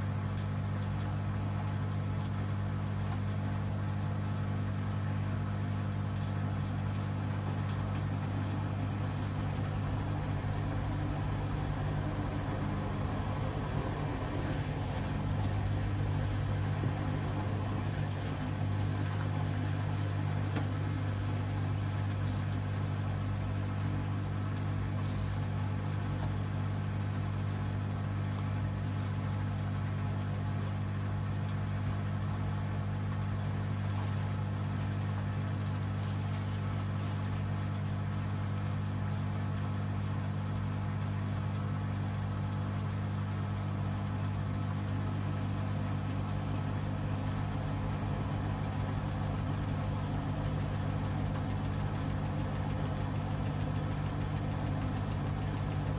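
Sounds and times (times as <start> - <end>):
washing machine humming: 0.0 - 38.5, 41.3 - 55.9.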